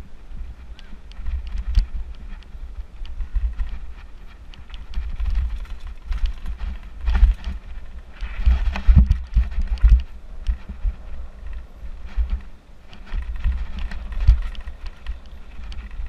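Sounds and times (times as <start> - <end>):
bike rattling and clicking: 0.0 - 16.0
wind buffeting microphone: 0.0 - 16.0.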